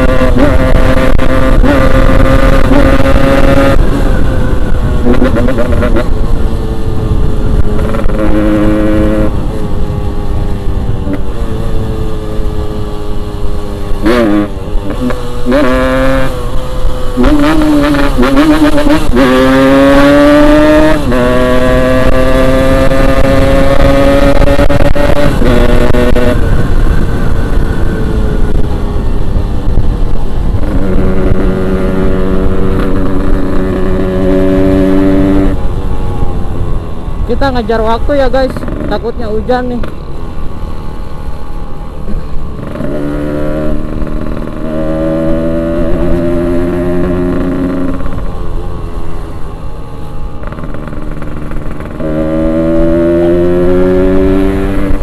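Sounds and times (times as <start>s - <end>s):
two-stroke motorcycle engine at high revs: 0.0s - 40.6s, 41.3s - 55.0s
wind rumble: 0.0s - 55.0s.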